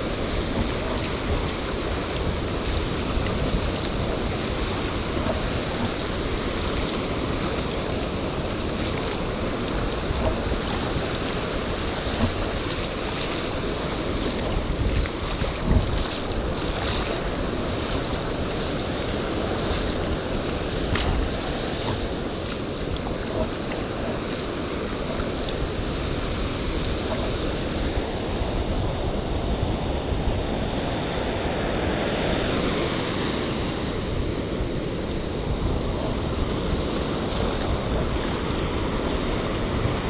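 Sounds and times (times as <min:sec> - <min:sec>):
ocean surf washing: 0:00.0 - 0:40.0
wind buffeting the microphone: 0:00.0 - 0:40.0.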